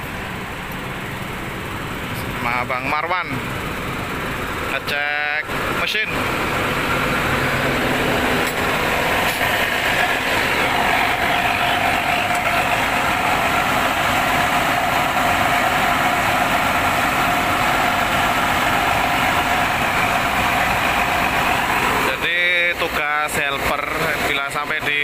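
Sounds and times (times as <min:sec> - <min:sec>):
diesel engine idling: 0:00.0 - 0:25.0
steady whine: 0:00.0 - 0:25.0.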